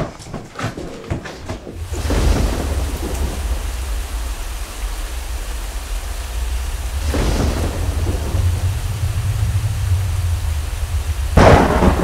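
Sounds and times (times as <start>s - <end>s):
steady rain: 1.7s - 12.0s
thunder rumbling: 1.7s - 12.0s
loud thunder peal: 1.8s - 12.0s.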